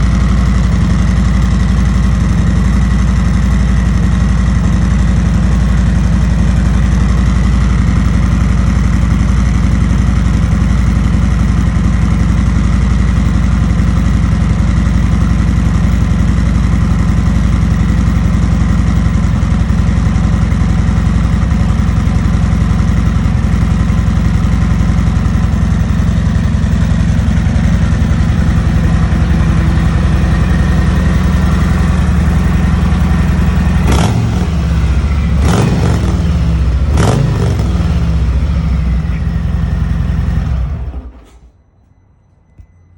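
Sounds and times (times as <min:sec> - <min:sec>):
motorcycle engine idling: 0:00.0 - 0:41.5.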